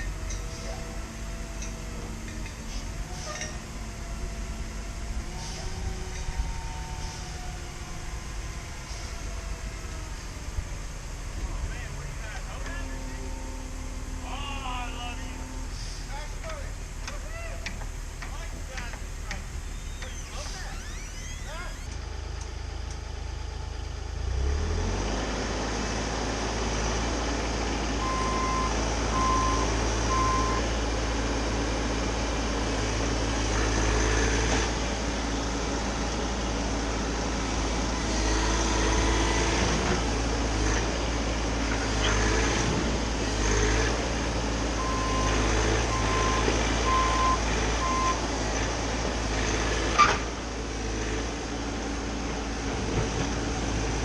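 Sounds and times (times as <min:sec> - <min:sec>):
mini-excavator diesel engine: 0:00.0 - 0:54.0.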